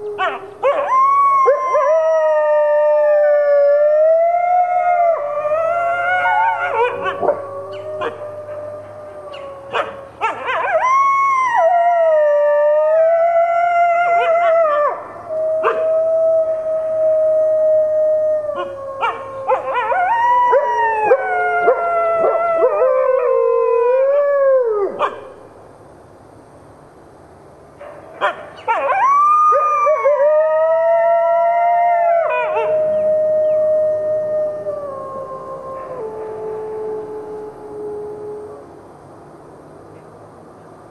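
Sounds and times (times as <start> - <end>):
wolves howling: 0.0 - 25.3, 28.6 - 38.7.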